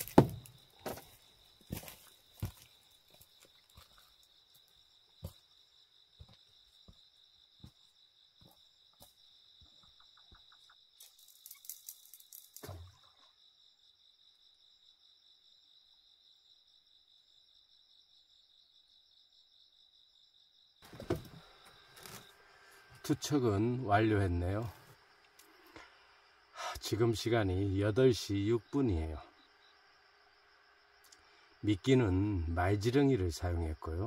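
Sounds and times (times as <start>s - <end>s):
night insects chorus: 0.0s - 34.0s.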